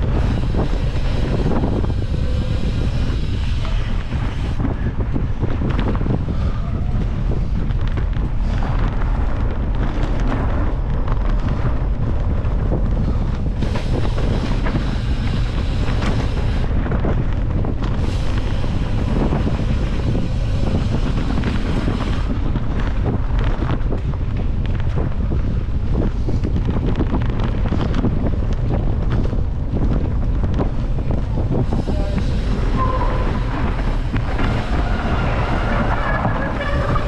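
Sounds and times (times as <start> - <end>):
bike rattling and knocking: 0.0 - 37.0
wind buffeting microphone: 0.0 - 37.0.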